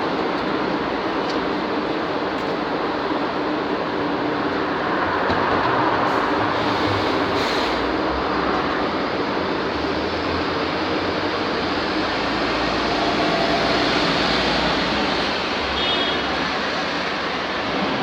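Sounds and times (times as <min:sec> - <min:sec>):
dense vehicle rumble: 0:00.0 - 0:18.0.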